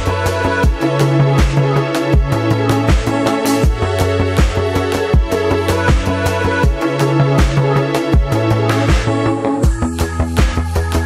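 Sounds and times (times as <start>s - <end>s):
background music with steady beat: 0.0s - 11.0s
sustained bass line: 0.0s - 11.0s.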